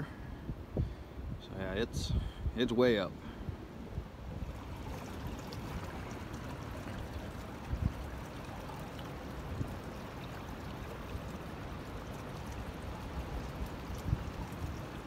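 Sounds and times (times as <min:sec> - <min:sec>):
creek water running: 0:02.8 - 0:15.0.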